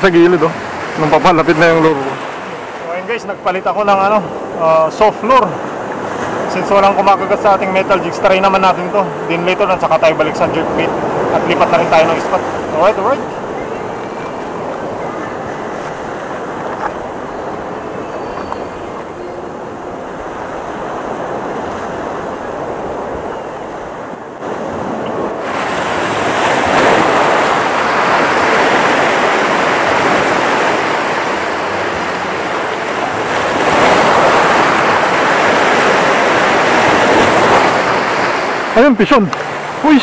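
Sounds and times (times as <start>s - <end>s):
sea waves breaking over rocks: 0.0s - 40.0s.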